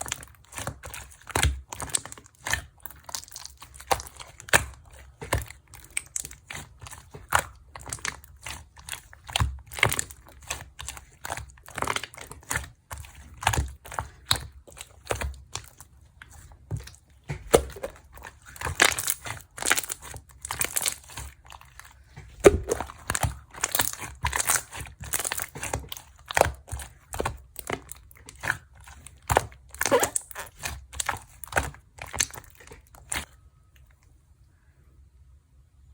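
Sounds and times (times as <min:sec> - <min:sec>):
crinkling and crackling: 0:00.0 - 0:34.2.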